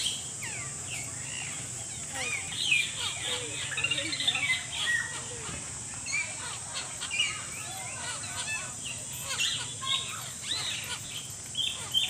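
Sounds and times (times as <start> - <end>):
parakeets chirping and squawking: 0.0 - 12.0
steady high hiss: 0.0 - 12.0.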